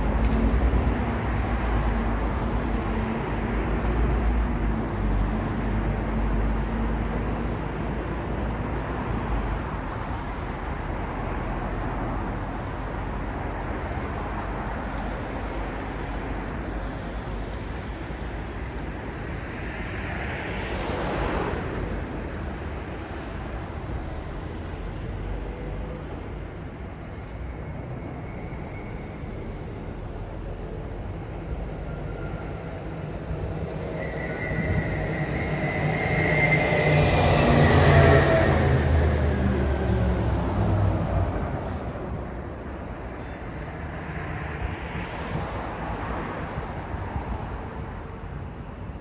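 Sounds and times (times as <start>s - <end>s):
city traffic rumble: 0.0s - 49.0s
heavy vehicle with high whine: 0.0s - 49.0s.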